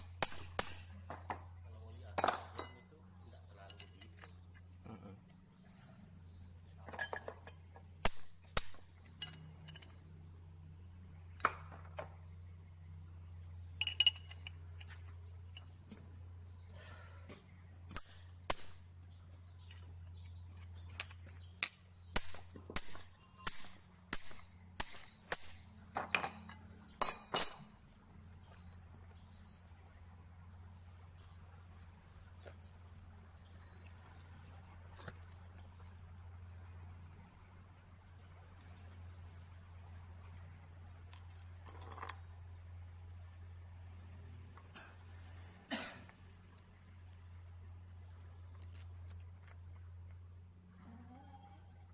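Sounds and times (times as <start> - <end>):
crickets chirring: 0.0 - 51.9.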